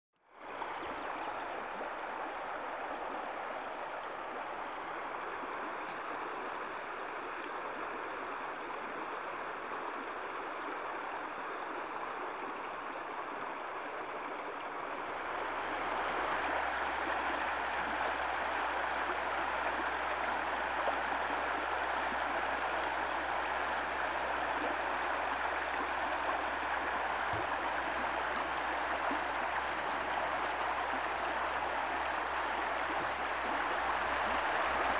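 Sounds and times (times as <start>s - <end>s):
stream rippling over pebbles: 0.2s - 34.9s.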